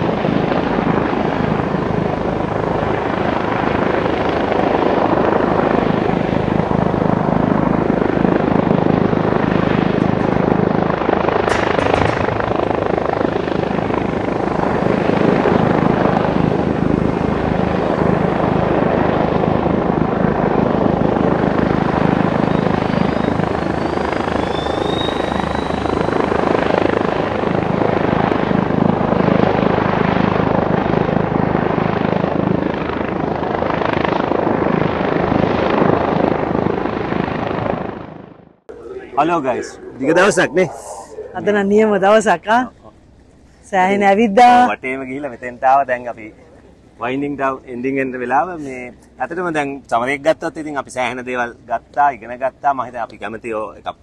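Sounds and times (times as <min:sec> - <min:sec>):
helicopter flying low: 0:00.0 - 0:54.0.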